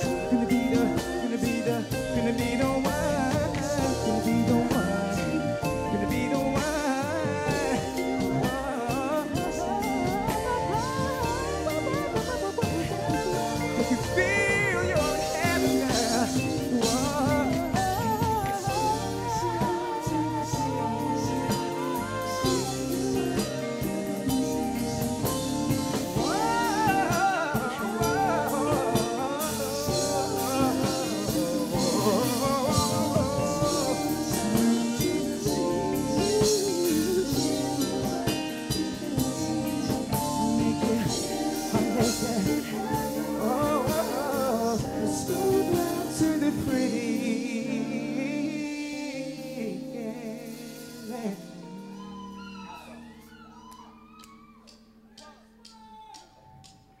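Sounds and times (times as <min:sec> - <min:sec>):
live band playing slow love song: 0:00.0 - 0:56.9.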